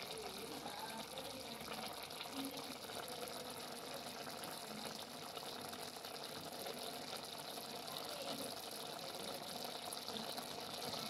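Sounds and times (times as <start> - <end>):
pot simmering: 0.0 - 11.0.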